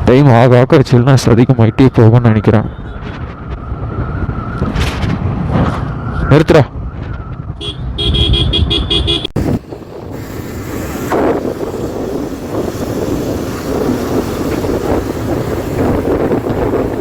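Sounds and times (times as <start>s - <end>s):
wind buffeting microphone: 2.7s - 17.0s.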